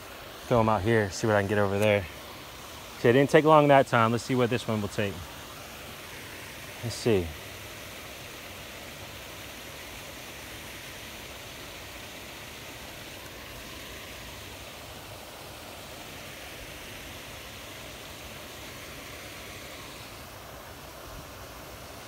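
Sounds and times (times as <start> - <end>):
steady outdoor ambient hiss: 0.0 - 22.0.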